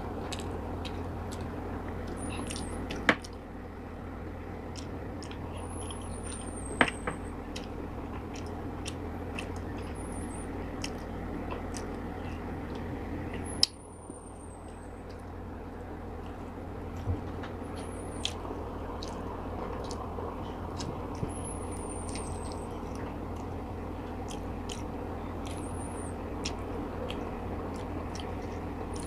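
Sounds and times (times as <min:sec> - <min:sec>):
steady low hum: 0:00.0 - 0:29.0
chewing and wet mouth sounds: 0:00.2 - 0:03.6, 0:04.2 - 0:29.0.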